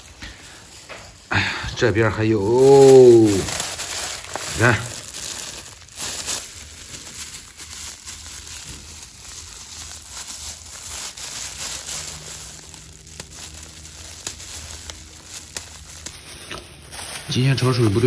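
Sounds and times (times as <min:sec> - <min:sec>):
dried shrimp rustling and clicking: 0:00.0 - 0:18.0
plastic gloves crinkling: 0:00.0 - 0:18.0.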